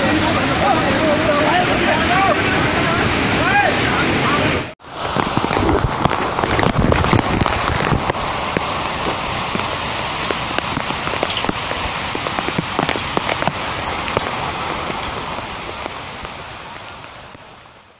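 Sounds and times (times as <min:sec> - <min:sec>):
floodwater rushing: 0:00.0 - 0:17.9.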